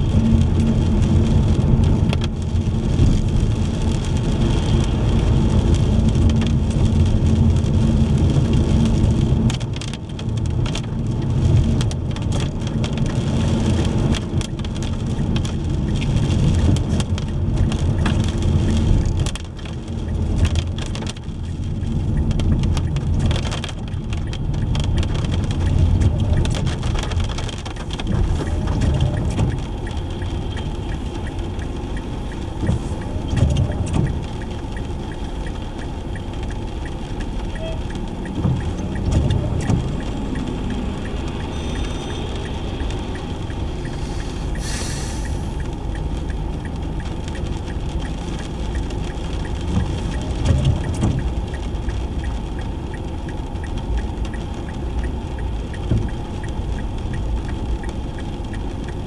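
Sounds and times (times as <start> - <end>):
raindrops hitting car: 0.0 - 59.0
road and engine rumble: 0.0 - 59.0.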